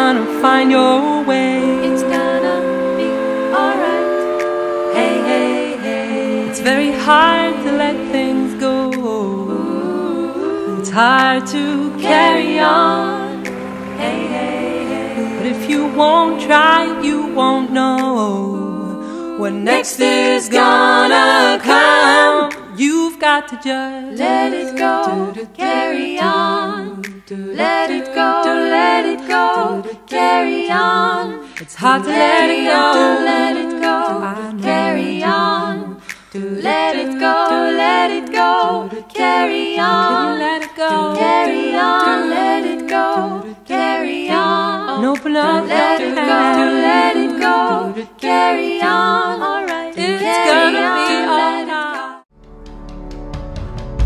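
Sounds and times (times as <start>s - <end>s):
voices singing unaccompanied: 0.0s - 52.3s.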